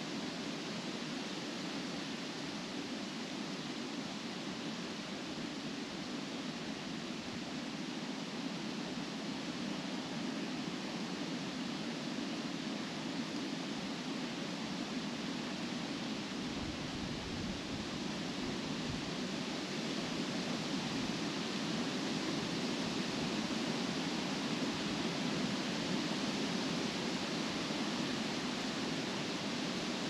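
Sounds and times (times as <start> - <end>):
wind rustling leaves in trees: 0.0 - 30.0.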